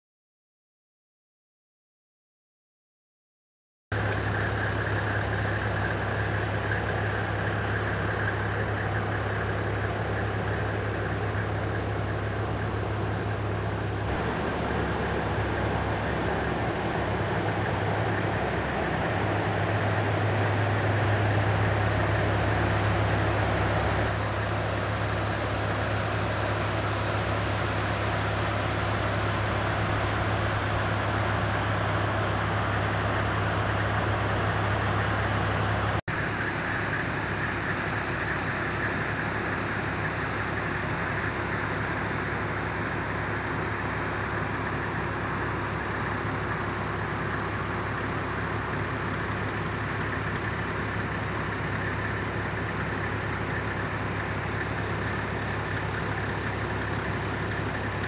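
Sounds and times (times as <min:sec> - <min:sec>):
diesel engine running: 0:03.9 - 0:58.0.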